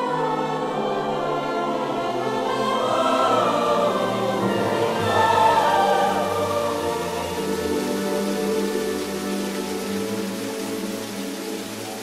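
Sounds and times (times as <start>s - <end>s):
choir singing held chords: 0.0s - 10.2s
musical backing: 0.0s - 12.0s.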